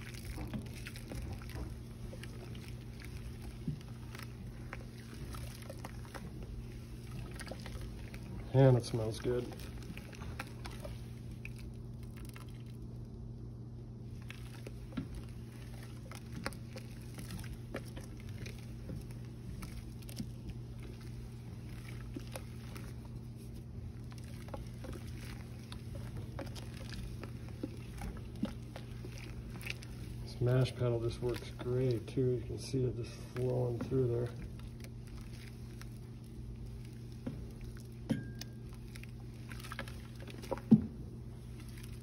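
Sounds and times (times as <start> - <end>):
paddle stirring grain and water: 0.0 - 42.0
steady low hum: 0.0 - 42.0.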